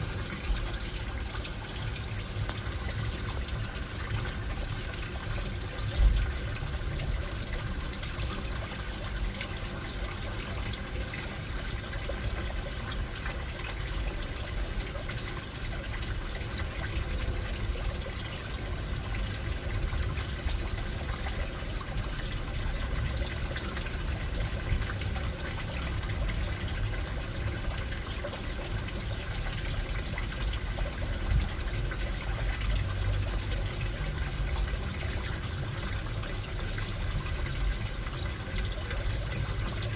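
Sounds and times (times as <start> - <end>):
water trickling in aquarium: 0.0 - 39.9.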